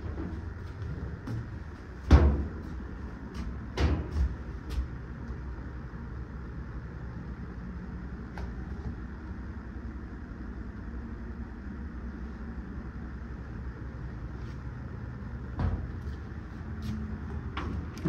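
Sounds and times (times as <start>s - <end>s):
ventilation humming: 0.0s - 18.0s.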